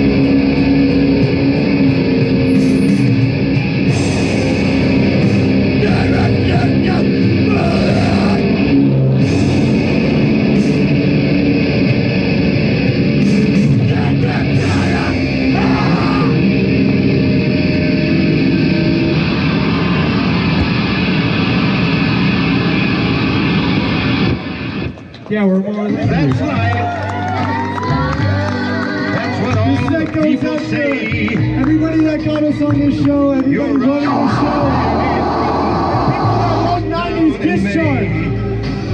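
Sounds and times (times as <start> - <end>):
heavy metal band playing: 0.0 - 25.0, 29.0 - 38.9.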